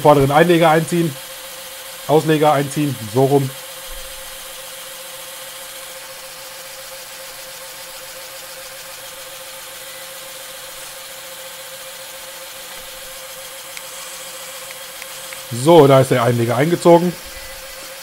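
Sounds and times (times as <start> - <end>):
small motors and pumps whining: 0.0 - 18.0.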